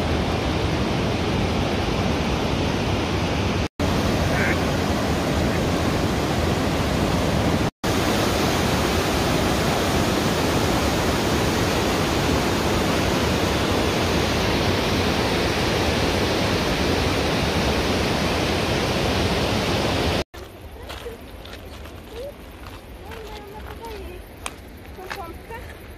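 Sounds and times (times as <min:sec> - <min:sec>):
river rushing over boulders: 0:00.0 - 0:25.2.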